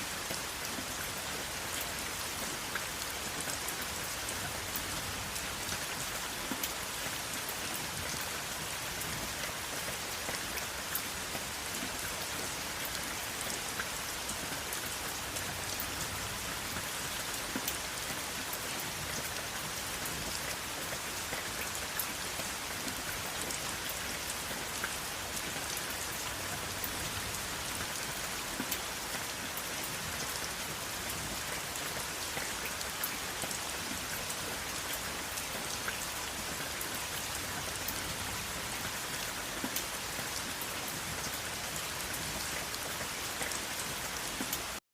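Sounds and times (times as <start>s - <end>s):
steady rain hissing: 0.0s - 44.8s.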